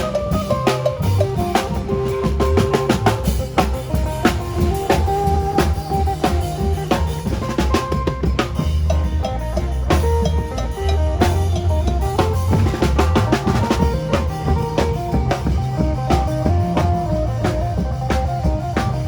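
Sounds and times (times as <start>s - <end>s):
deep bass: 0.0s - 19.0s
drum kit beat: 0.0s - 19.0s
lute picking a quick melody: 0.0s - 19.0s.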